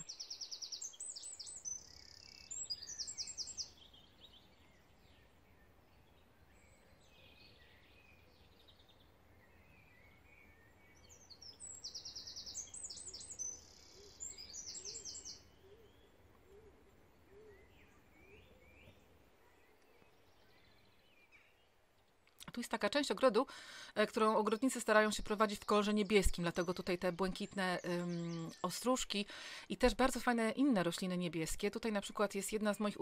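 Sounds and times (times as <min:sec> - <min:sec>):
faint outdoor hiss: 0:00.0 - 0:33.0
songbirds singing: 0:00.0 - 0:33.0.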